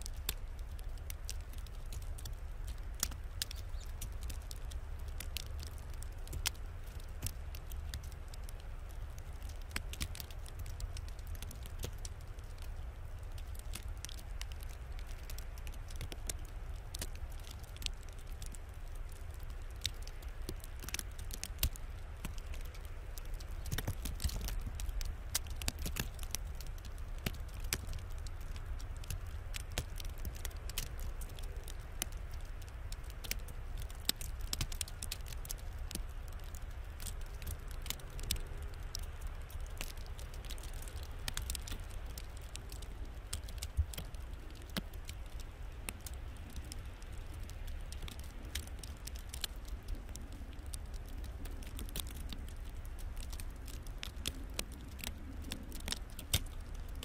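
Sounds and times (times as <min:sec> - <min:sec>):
ice pellets ticking: 0:00.0 - 0:57.0.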